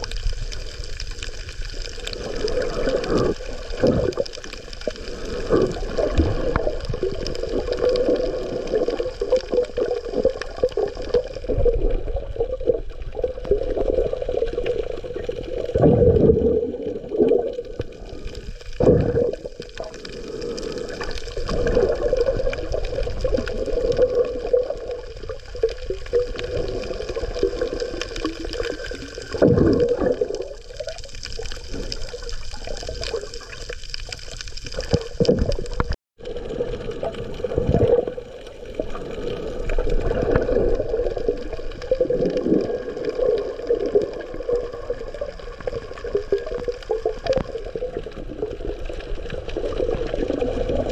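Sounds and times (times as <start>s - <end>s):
muffled underwater water swirling: 0.0s - 50.9s.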